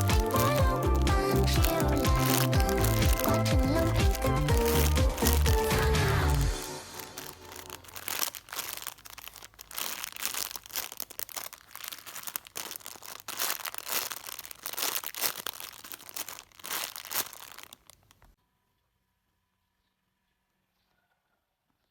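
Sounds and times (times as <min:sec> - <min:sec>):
crinkly wrapping crackling: 0:00.0 - 0:18.4.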